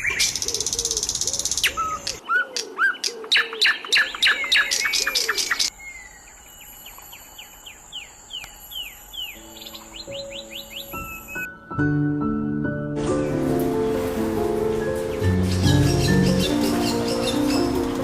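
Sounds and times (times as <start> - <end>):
songbird buzzy trill and chirps: 0.0 - 11.6, 14.7 - 18.0.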